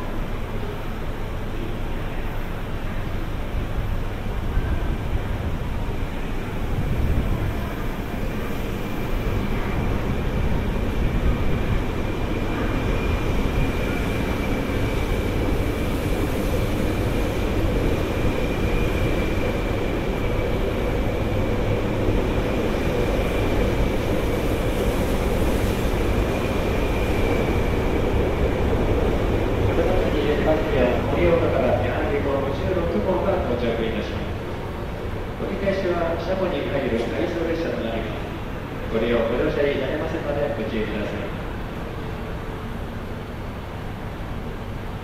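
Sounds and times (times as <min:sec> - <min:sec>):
train wheels rumbling: 0:03.3 - 0:42.6.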